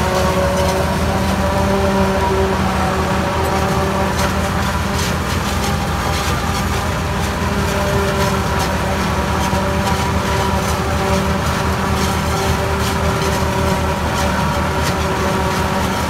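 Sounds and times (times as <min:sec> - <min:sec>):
harvester and tractor machinery drone: 0:00.0 - 0:16.0.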